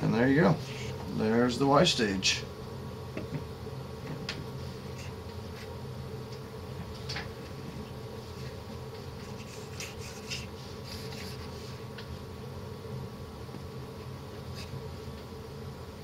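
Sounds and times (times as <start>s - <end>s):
low electrical buzz: 0.0s - 16.0s.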